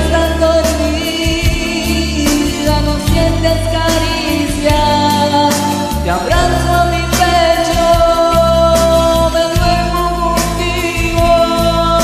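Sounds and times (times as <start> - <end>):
karaoke backing track: 0.0 - 12.0
man singing: 0.0 - 12.0.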